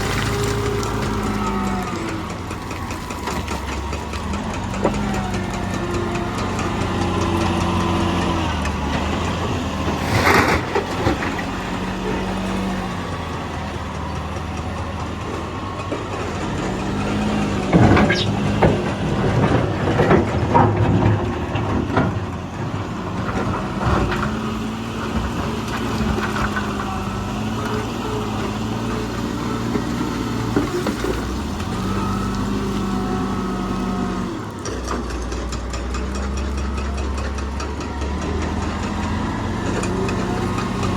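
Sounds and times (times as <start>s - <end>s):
heavy diesel machinery engine revving: 0.0s - 40.9s.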